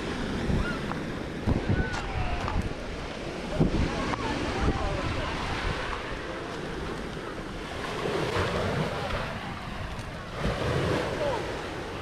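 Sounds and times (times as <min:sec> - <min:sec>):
wind noise on microphone: 0:00.0 - 0:11.2
waves washing onto pebble beach: 0:00.0 - 0:12.0.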